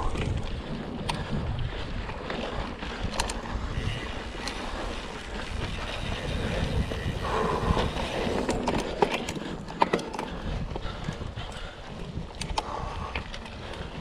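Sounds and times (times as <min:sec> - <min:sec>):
bike tyres rattling on trail: 0:00.0 - 0:14.0
wind rumble on microphone: 0:00.0 - 0:14.0.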